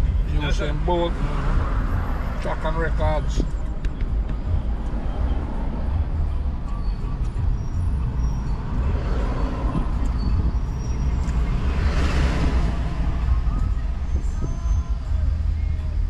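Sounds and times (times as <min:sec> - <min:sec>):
car cabin engine and road rumble: 0:00.0 - 0:16.0.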